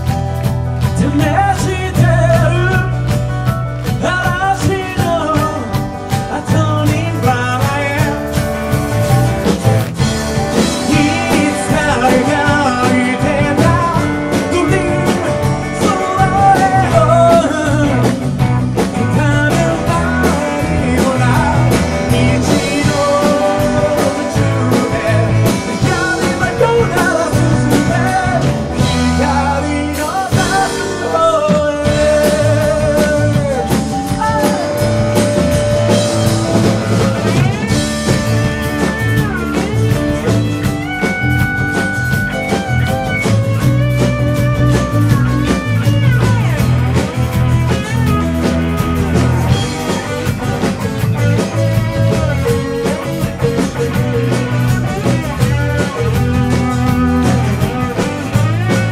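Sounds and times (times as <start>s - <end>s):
live rock band playing: 0.0s - 58.9s
man singing: 0.8s - 8.8s, 10.5s - 41.8s, 47.6s - 58.9s.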